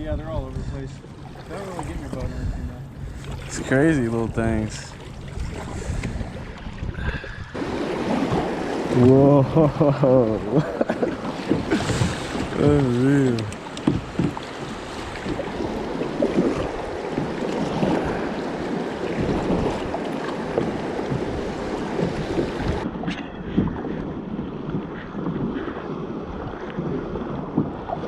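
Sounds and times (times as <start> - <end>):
water rushing and splashing: 0.0 - 28.0
wind buffeting microphone: 0.0 - 28.0.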